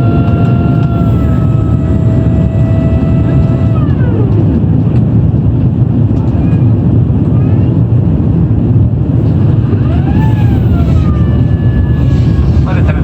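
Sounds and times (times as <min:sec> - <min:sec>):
airliner cabin rumble: 0:00.0 - 0:13.0
jet engine whine: 0:00.0 - 0:13.0.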